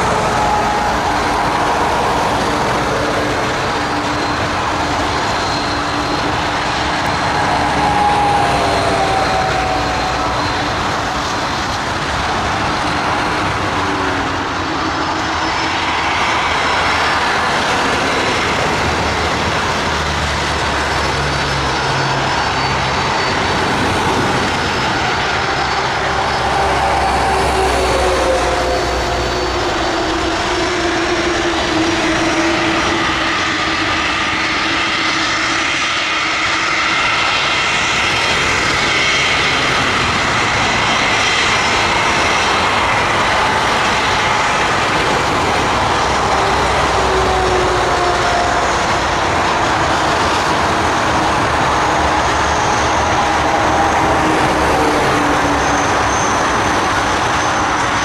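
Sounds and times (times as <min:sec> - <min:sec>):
jet engines whining at taxi power: 0:00.0 - 0:58.0.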